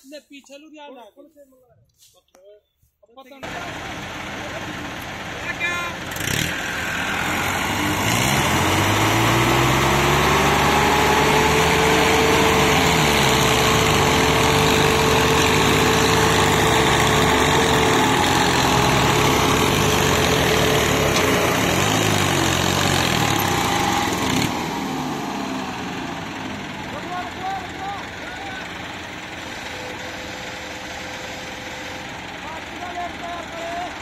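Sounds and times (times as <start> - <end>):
diesel tractor engines straining: 3.3 - 34.0.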